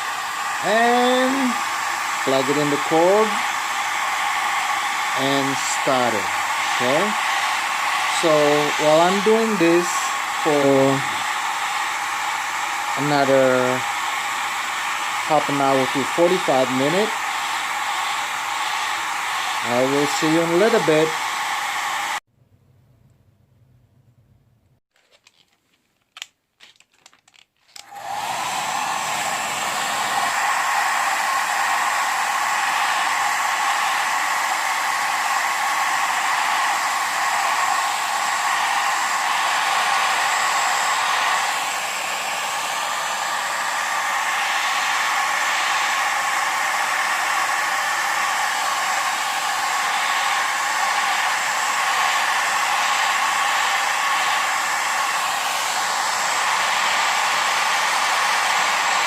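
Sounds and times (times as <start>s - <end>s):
hair dryer blowing: 0.0s - 22.3s, 27.8s - 59.0s.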